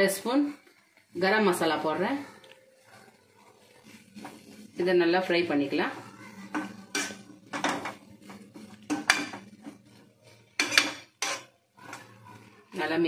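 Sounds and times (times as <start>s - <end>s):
metal spatula scraping a pan: 0.2s - 13.0s.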